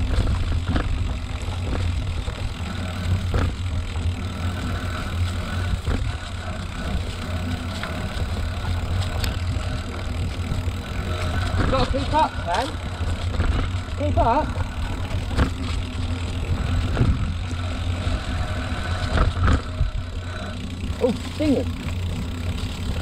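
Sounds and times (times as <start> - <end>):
faint steady hum: 0.0 - 23.0
road and wind rumble: 0.0 - 23.0.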